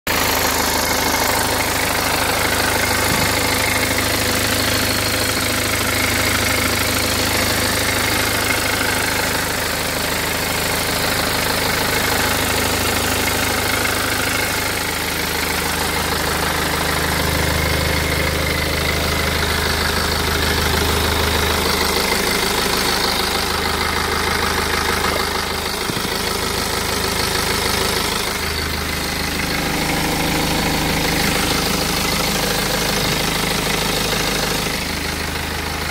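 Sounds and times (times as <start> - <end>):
diesel engine idling: 0.1 - 35.9
engine ticking: 0.1 - 35.9.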